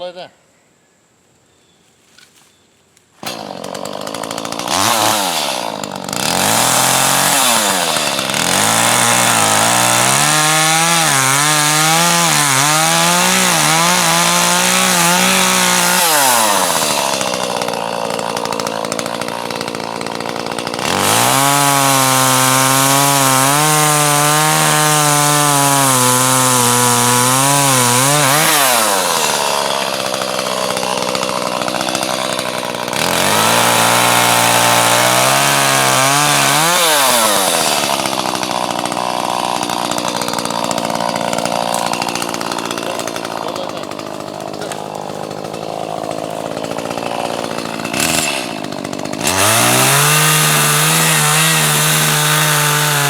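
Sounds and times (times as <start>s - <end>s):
chainsaw cutting through log: 3.2s - 53.0s.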